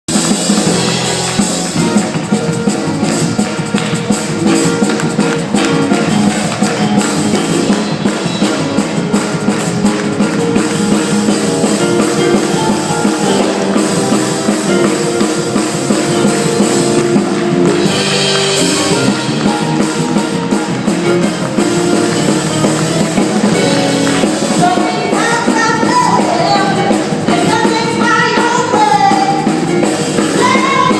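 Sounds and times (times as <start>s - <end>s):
gospel band instrumental: 0.1s - 30.9s.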